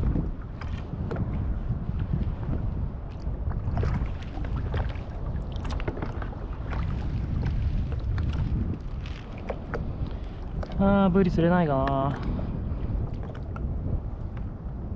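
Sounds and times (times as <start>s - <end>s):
water splashing against kayak hull: 0.0s - 14.8s
wind buffeting microphone: 0.0s - 14.9s.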